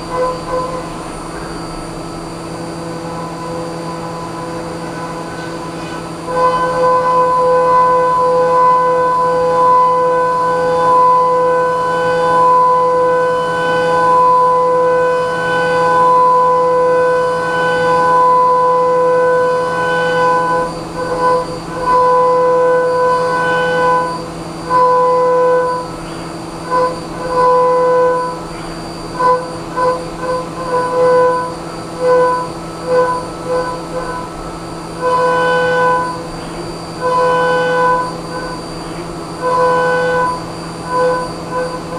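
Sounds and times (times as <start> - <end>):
milling cutter whining: 0.0 - 41.9.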